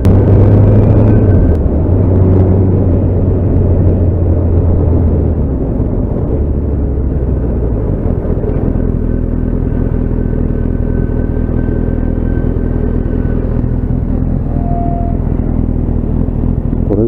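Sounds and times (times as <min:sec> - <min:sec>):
wind noise: 0:00.0 - 0:16.9
motorcycle engine running: 0:00.0 - 0:17.0
road rumble: 0:00.0 - 0:17.0.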